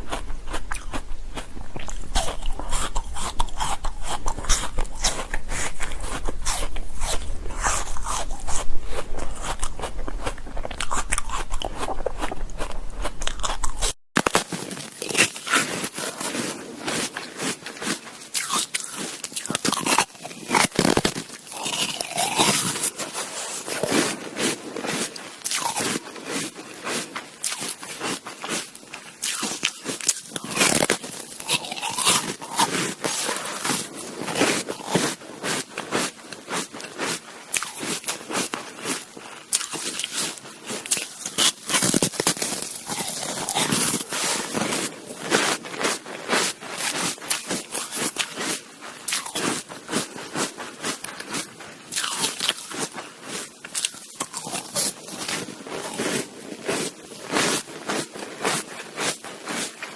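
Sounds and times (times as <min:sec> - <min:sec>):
crunching shaved ice: 0:00.0 - 0:59.9.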